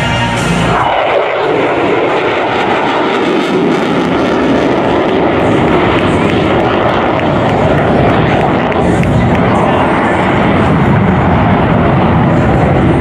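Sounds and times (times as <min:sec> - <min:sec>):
jet engines in afterburner: 0:00.0 - 0:13.0.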